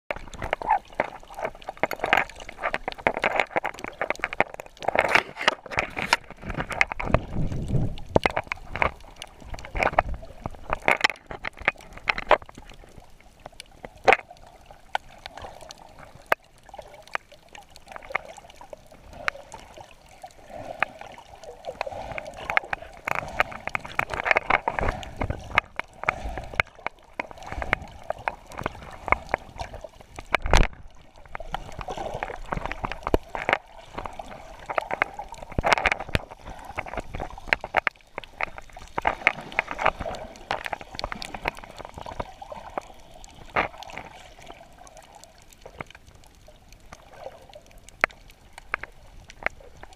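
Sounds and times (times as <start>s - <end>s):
muffled underwater water sloshing: 0.1s - 49.9s.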